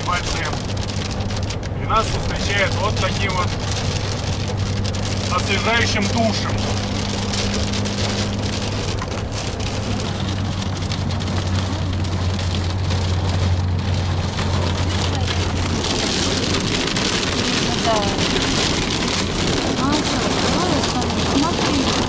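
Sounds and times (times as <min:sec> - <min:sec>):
car engine and tyres hum: 0:00.0 - 0:22.0
heavy rain on car roof: 0:00.0 - 0:22.0.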